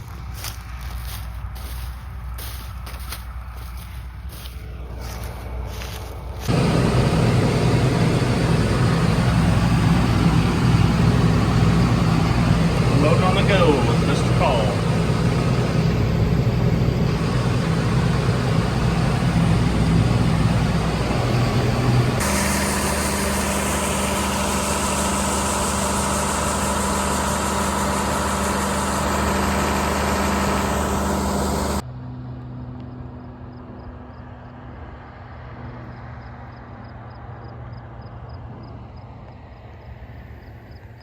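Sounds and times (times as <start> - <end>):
farm machinery engines running: 0.0 - 33.8.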